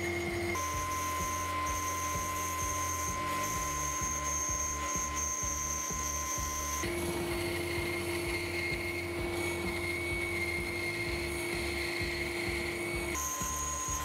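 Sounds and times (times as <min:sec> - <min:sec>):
band saw cutting plywood: 0:00.0 - 0:14.0.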